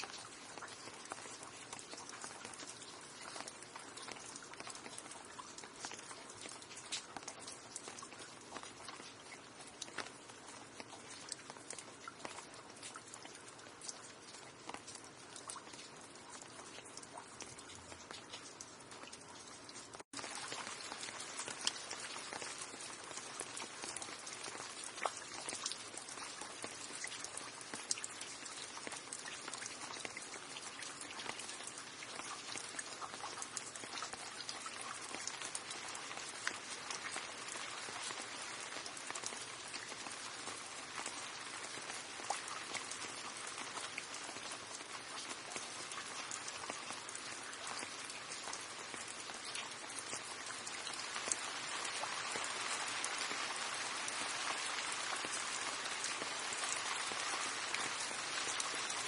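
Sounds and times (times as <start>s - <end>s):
rain drops ticking on hard surface: 0.0s - 59.0s.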